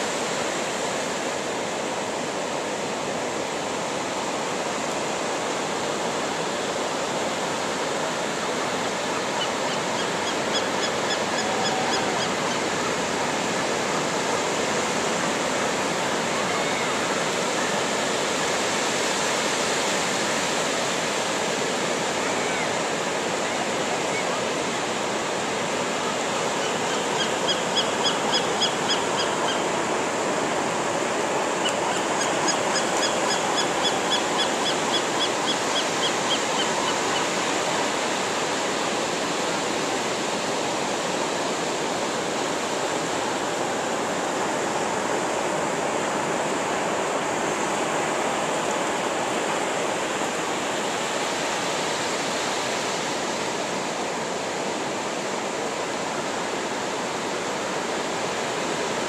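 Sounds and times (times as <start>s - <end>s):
surf on sandy beach: 0.0s - 59.0s.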